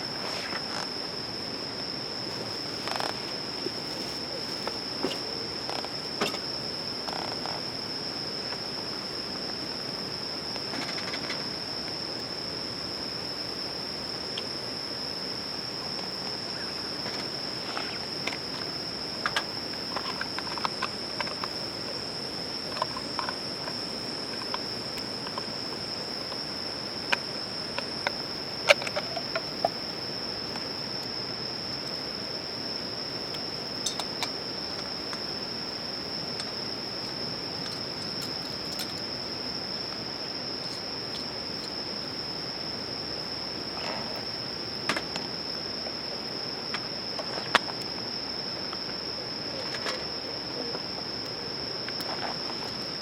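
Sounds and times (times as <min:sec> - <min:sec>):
crickets trilling: 0:00.0 - 0:53.0.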